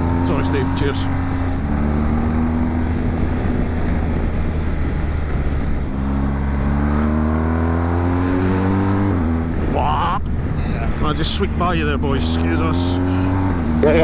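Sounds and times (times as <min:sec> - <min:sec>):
motorcycle engine running: 0:00.0 - 0:14.0
wind rush over microphone: 0:00.8 - 0:12.2.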